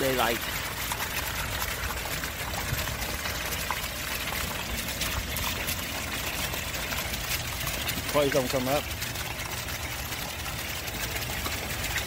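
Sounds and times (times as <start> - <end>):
small splashes and drips: 0.0 - 12.0
water pouring into pond: 0.0 - 12.0.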